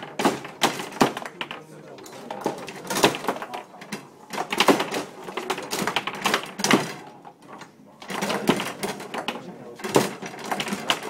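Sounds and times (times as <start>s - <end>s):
foosball cracking off plastic figures: 0.0s - 11.0s.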